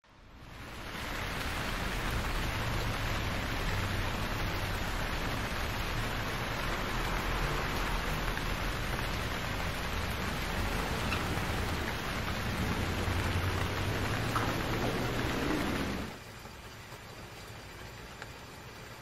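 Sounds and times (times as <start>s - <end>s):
rain on wet street: 0.1s - 19.0s
car passing on wet road: 0.2s - 16.2s.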